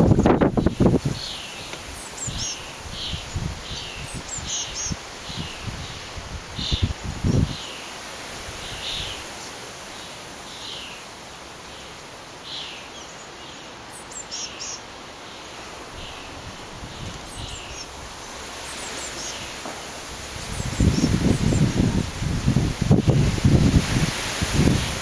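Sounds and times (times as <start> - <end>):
small birds calling: 0.0 - 22.1
wind hiss: 0.0 - 25.0.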